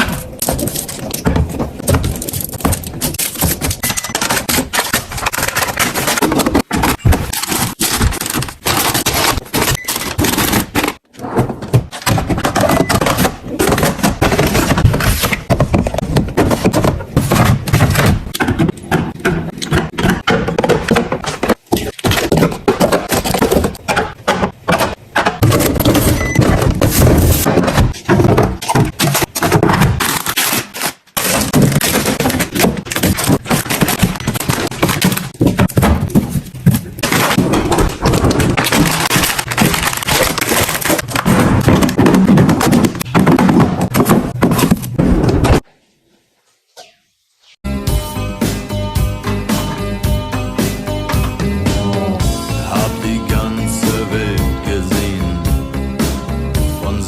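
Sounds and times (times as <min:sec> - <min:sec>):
groceries thunking on shelves: 0:00.0 - 0:45.7.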